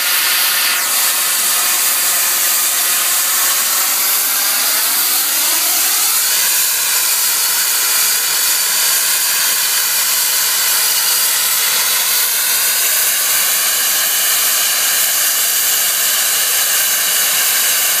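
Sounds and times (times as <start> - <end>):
steam venting hiss: 0.0 - 18.0.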